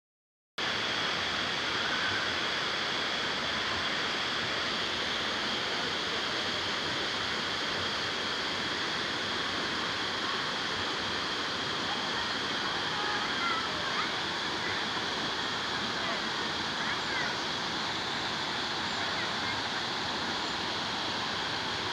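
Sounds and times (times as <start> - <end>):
rushing river and waterfall: 0.6 - 21.9.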